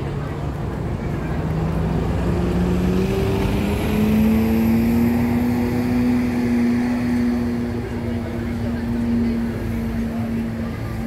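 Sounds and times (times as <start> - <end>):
vehicle accelerating: 0.0 - 11.0.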